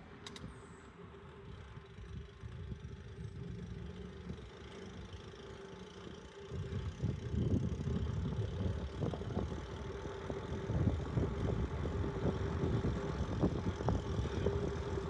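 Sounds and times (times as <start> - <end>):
bicycle rumbling on rough street: 0.0 - 15.0.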